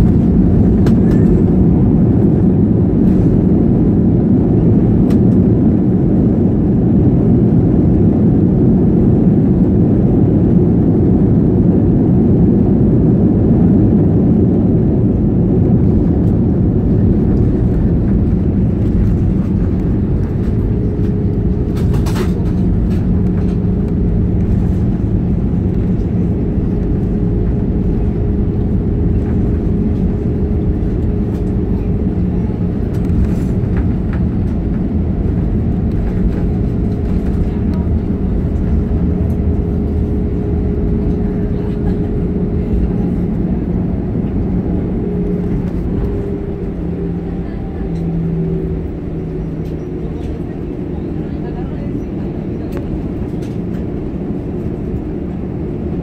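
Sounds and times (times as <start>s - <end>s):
low rumble of aircraft landing: 0.0s - 56.0s
steady whine: 0.0s - 56.0s.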